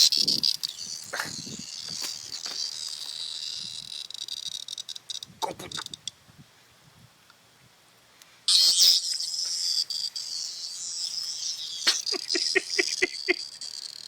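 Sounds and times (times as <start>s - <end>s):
cicada buzzing: 0.0s - 6.0s, 8.5s - 14.0s.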